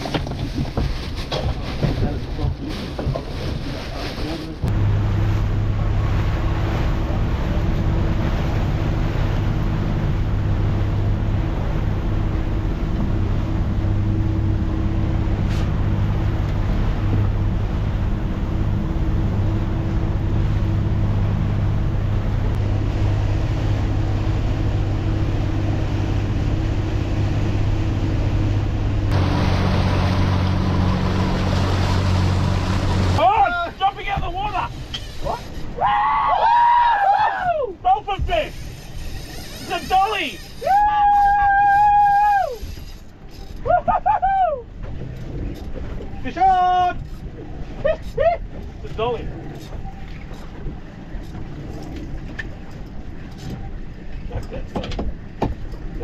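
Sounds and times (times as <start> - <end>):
boat engine humming: 0.0 - 56.0
water rushing past hull: 0.0 - 56.0.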